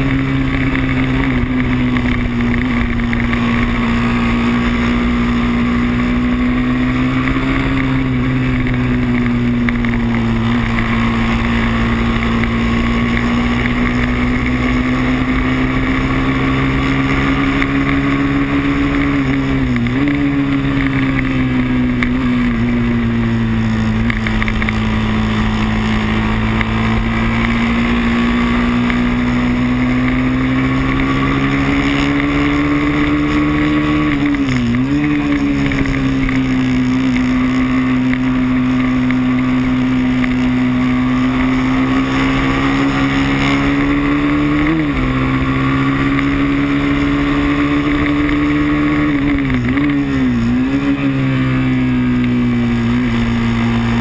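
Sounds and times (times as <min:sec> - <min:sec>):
race motorcycle engine at high revs: 0:00.0 - 0:54.0.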